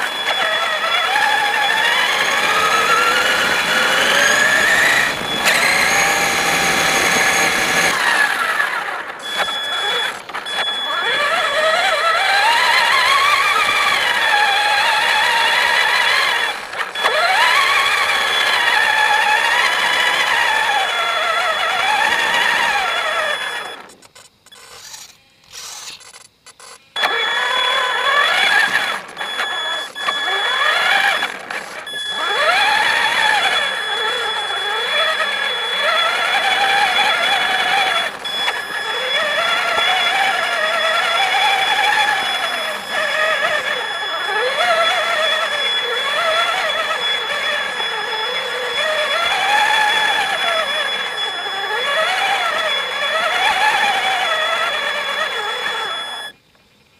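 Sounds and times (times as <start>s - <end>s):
toy truck motor whining: 0.0s - 56.4s
steady high-pitched whine: 0.0s - 56.9s.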